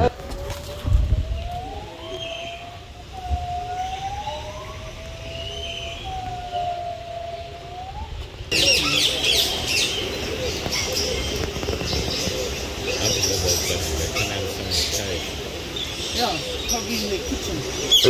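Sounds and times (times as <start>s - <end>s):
distant siren wailing: 0.0s - 18.0s
many birds chattering: 0.0s - 18.0s.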